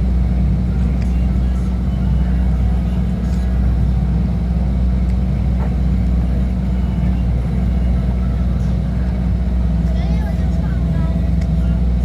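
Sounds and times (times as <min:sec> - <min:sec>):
loud low-pitched drone: 0:00.0 - 0:12.0.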